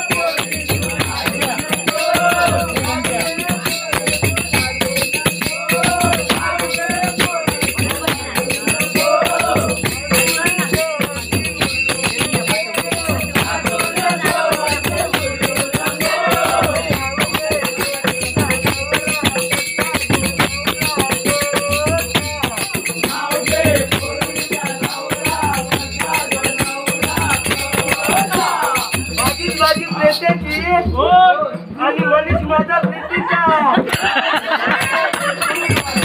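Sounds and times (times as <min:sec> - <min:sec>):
fast drumbeat: 0:00.0 - 0:36.0
people singing or chanting: 0:00.0 - 0:36.0.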